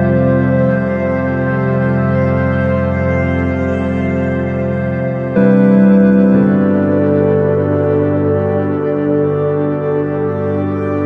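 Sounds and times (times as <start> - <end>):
slow ambient music with held chords: 0.0 - 11.0.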